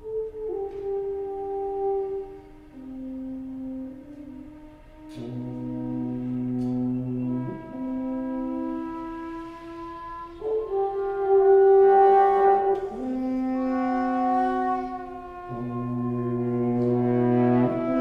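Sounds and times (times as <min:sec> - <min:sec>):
wind instruments holding notes: 0:00.0 - 0:18.0.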